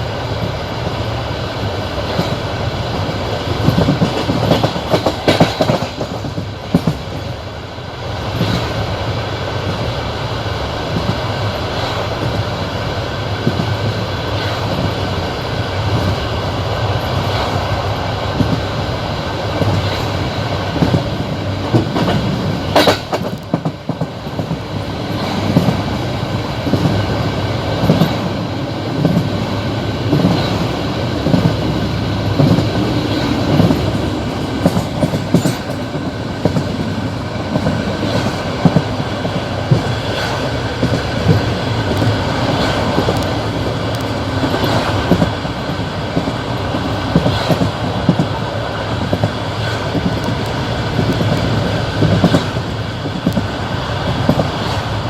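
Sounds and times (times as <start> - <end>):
train rumble: 0.0 - 55.0
train wheels clickety-clack: 0.0 - 55.0.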